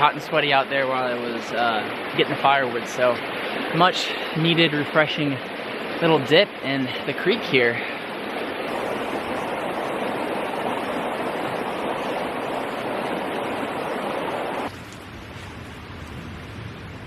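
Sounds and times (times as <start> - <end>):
creek water rushing: 0.0 - 16.7
low steady hiss: 0.0 - 17.0.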